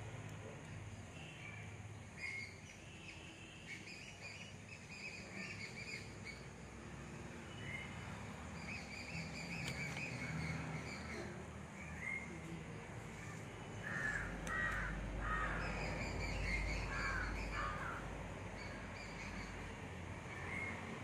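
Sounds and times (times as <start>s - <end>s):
small birds chirping: 0.7s - 21.0s.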